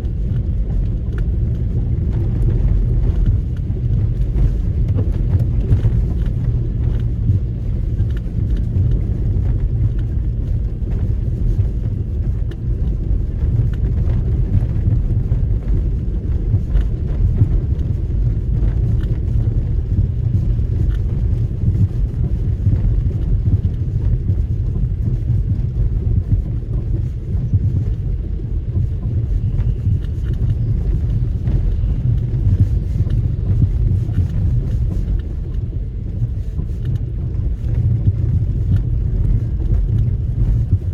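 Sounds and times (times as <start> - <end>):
car engine and tyres rumbling: 0.0 - 40.9
faint clicks and knocks: 0.0 - 40.9.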